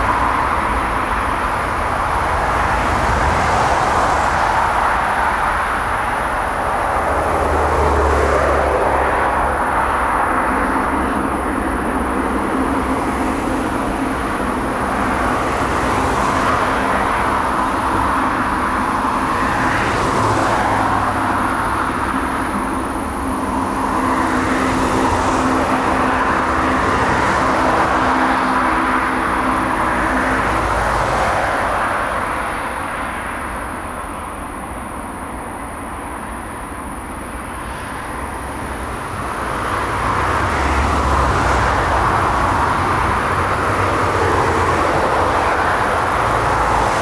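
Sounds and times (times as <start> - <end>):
jet engines roaring at takeoff: 0.0 - 47.0.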